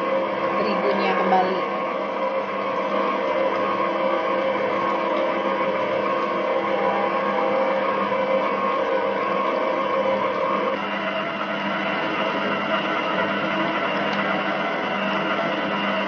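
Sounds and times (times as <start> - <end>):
stand mixer motor running: 0.0 - 16.0.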